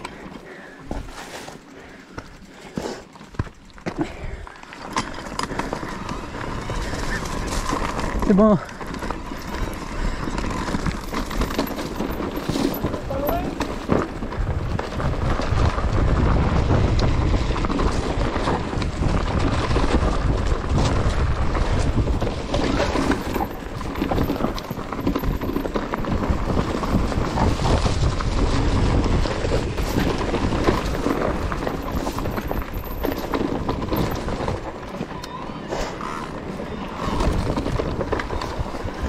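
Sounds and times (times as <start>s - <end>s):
bike rattling: 0.0s - 39.0s
tyres rolling over stones: 0.0s - 39.0s.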